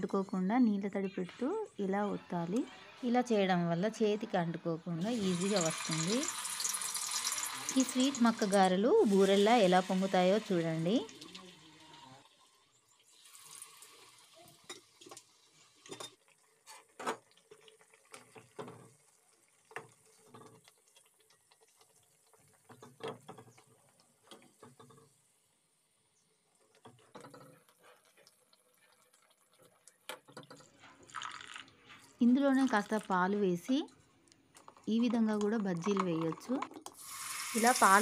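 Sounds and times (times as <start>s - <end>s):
oil sizzling and popping: 4.9s - 38.0s.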